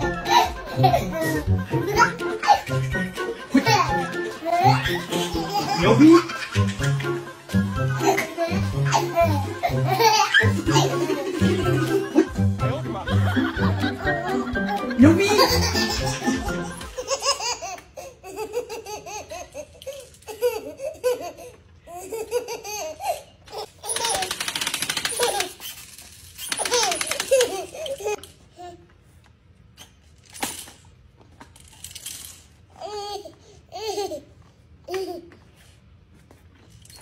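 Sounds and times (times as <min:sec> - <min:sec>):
baby laughing: 0:00.0 - 0:25.6, 0:26.5 - 0:28.8, 0:32.8 - 0:35.4.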